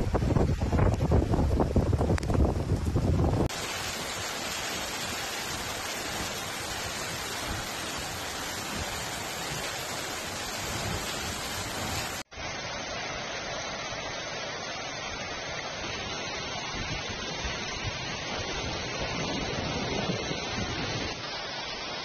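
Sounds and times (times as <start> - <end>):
heavy rain rushing: 0.0 - 22.0.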